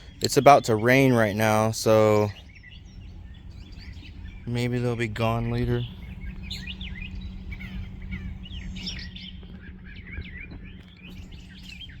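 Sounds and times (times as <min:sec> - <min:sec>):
low steady rumble: 0:00.0 - 0:12.0
small birds chirping: 0:00.0 - 0:12.0.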